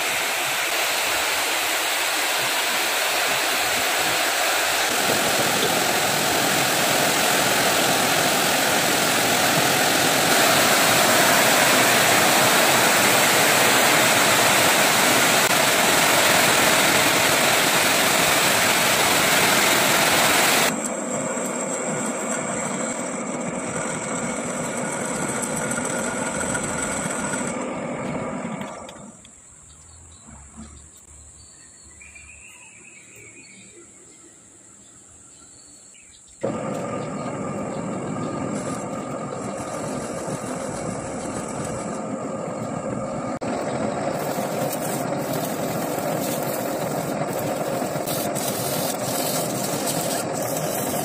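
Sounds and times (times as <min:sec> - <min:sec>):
metal lathe machining: 0:00.0 - 0:29.1, 0:36.4 - 0:51.0
machine running whine: 0:00.0 - 0:29.4, 0:36.4 - 0:51.0.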